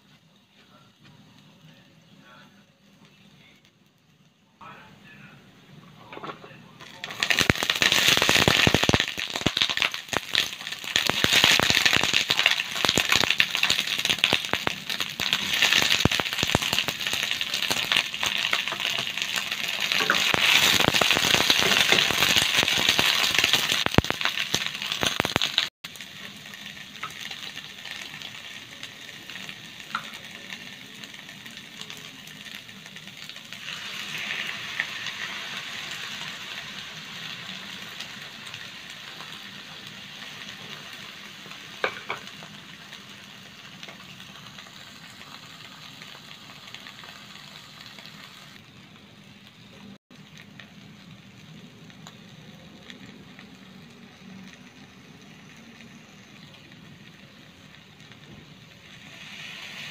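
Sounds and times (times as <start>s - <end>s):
vegetables sizzling in hot oil: 6.8s - 59.9s.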